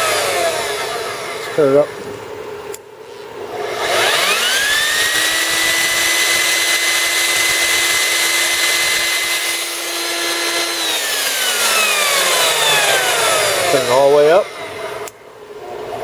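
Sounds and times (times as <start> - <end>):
band saw motor whine: 0.0 - 2.0, 3.4 - 15.2.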